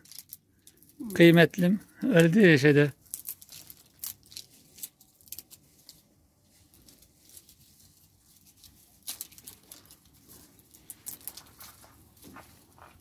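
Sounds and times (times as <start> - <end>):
dry pods crackling and rustling: 0.0 - 13.0.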